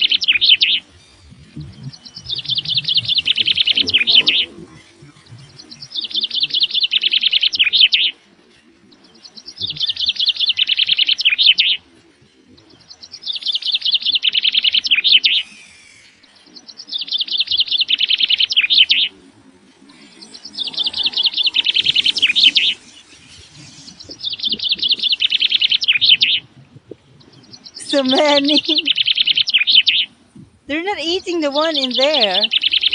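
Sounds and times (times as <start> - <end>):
songbird trilling: 0.0 - 26.5, 27.2 - 32.9.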